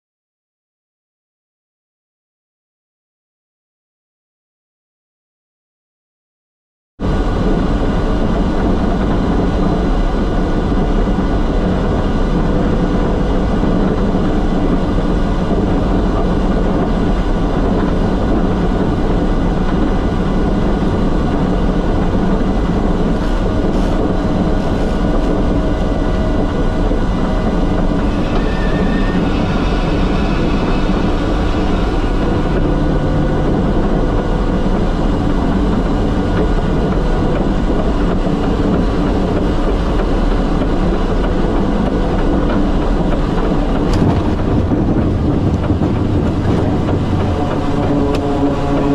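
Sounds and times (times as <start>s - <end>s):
turboprop engines droning: 7.0s - 48.9s.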